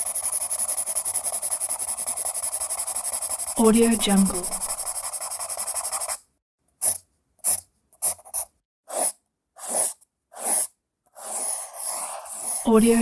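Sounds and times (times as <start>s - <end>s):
pencil scribbling: 0.0s - 6.2s, 6.8s - 13.0s
pencil strokes on paper: 0.0s - 6.2s, 6.8s - 13.0s.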